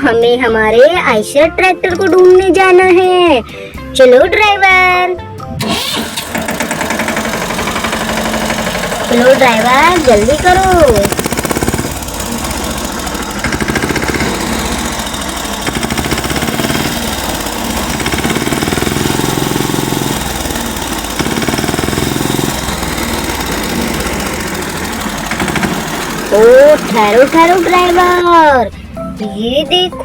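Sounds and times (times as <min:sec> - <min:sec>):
vehicle engine chugging: 0:05.6 - 0:29.9.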